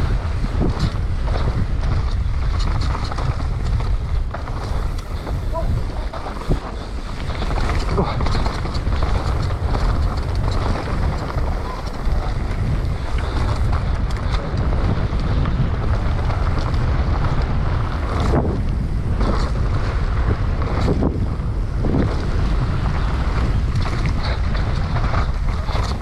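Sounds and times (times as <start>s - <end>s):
bike rattles and clicks: 0.0s - 26.0s
bike tyre noise: 0.0s - 26.0s
wind rumble on microphone: 0.0s - 26.0s.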